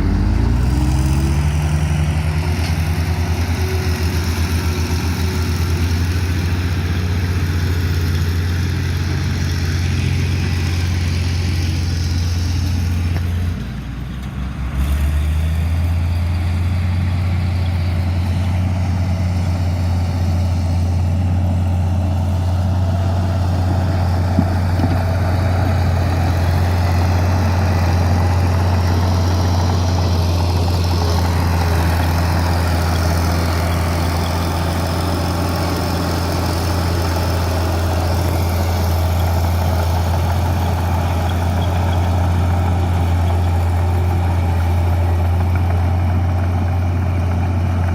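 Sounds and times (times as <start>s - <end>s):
diesel truck engine running: 0.0s - 47.9s.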